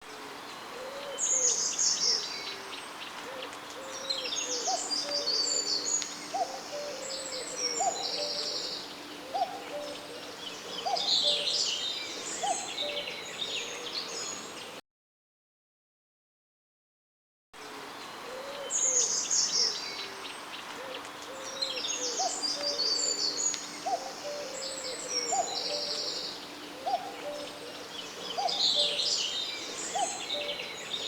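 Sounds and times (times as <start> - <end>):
songbirds twittering: 0.4 - 14.8, 17.9 - 31.0
cuckoo calling: 0.7 - 14.2, 18.2 - 31.0.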